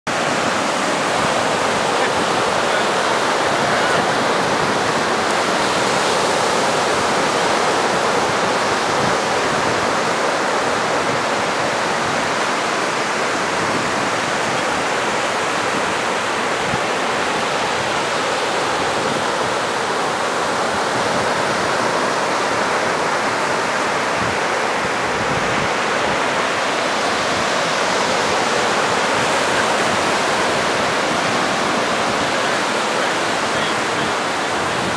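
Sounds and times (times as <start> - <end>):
sea rushing hiss: 0.1 - 34.9.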